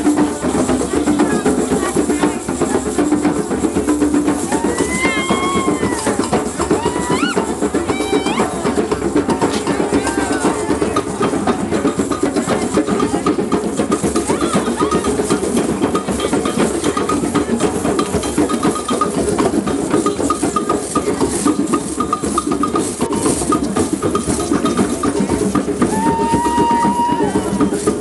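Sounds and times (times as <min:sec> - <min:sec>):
drum circle beat: 0:00.0 - 0:28.0.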